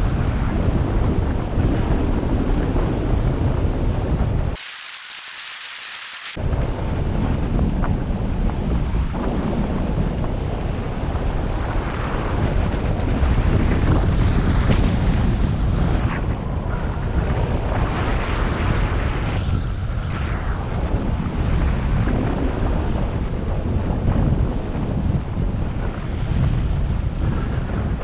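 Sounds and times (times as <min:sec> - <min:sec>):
wind buffeting microphone: 0:00.0 - 0:04.6, 0:06.4 - 0:28.0.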